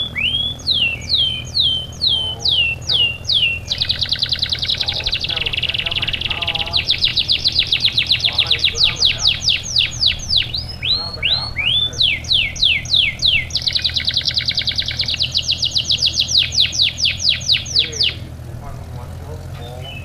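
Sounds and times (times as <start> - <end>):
canary singing: 0.0 - 20.0.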